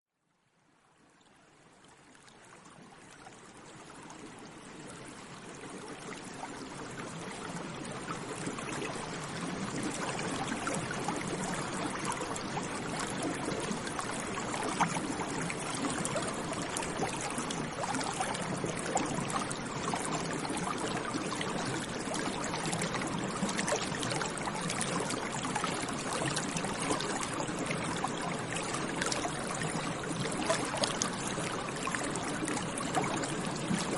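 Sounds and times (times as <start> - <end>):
stream trickling over stones: 0.9 - 33.9.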